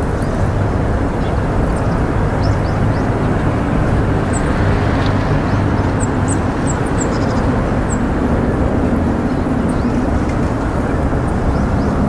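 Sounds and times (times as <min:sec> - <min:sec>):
distant vehicle rumble: 0:00.0 - 0:12.0.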